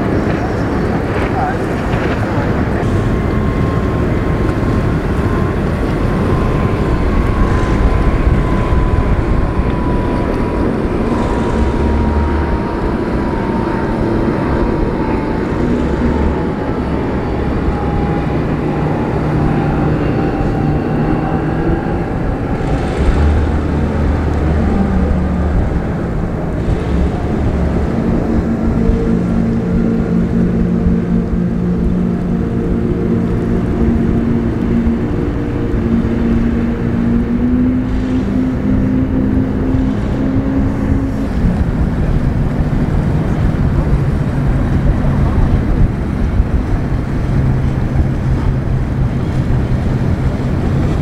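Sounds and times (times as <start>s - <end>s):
outboard engines droning with whine: 0.0s - 51.0s.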